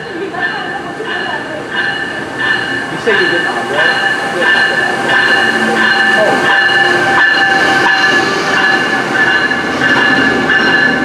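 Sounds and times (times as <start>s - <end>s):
locomotive bell ringing: 0.0s - 11.0s
rumble of train cars: 0.0s - 11.0s.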